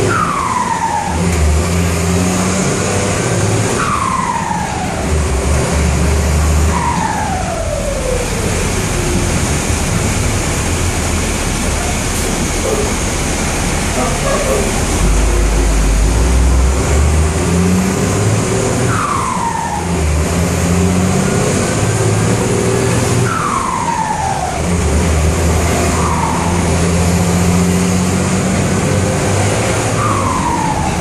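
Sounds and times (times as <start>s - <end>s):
diesel engine pulling under load: 0.0s - 31.0s.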